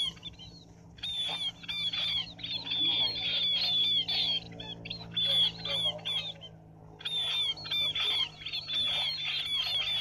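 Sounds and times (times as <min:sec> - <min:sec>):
birds calling high falling notes: 0:00.0 - 0:10.0.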